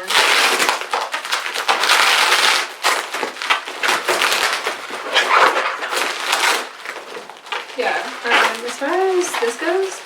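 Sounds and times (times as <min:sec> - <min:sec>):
bubble wrap crinkling and crackling: 0:00.0 - 0:10.0.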